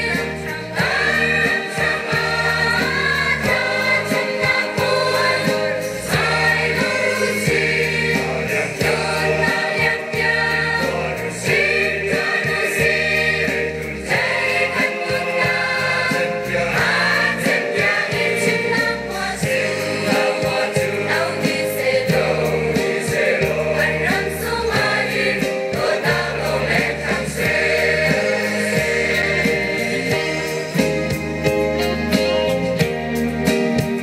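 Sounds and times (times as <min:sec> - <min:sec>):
church choir singing: 0:00.0 - 0:32.2.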